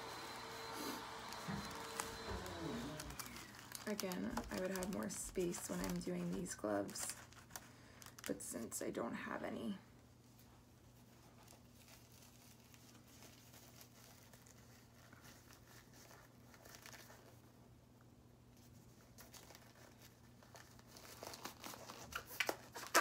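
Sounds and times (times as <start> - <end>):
glove crinkling and rubbing: 0.0 - 8.3, 10.2 - 17.6, 18.5 - 23.0.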